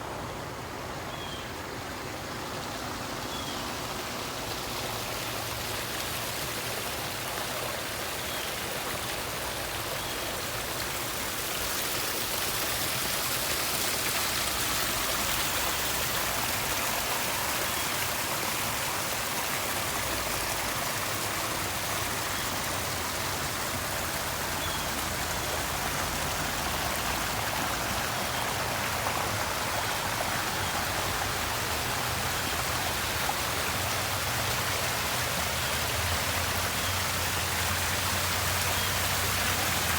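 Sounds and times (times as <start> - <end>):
water running and splashing: 4.0 - 39.9.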